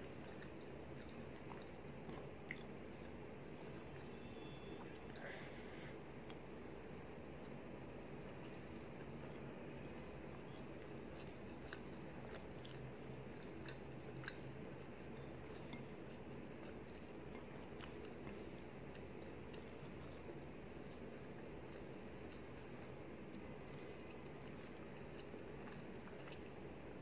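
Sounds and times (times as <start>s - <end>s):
person chewing: 0.0s - 4.2s, 8.2s - 26.7s.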